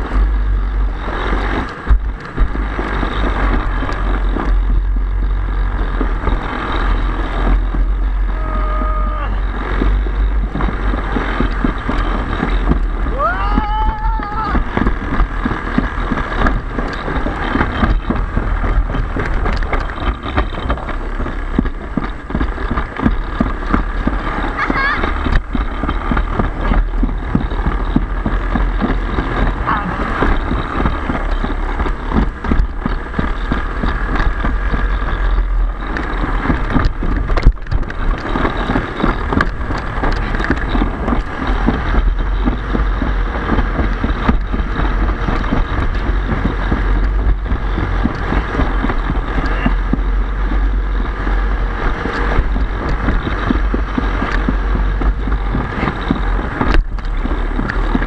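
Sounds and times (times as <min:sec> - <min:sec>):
sled rattling on concrete track: 0:00.0 - 0:58.0
wind buffeting microphone: 0:00.0 - 0:58.0.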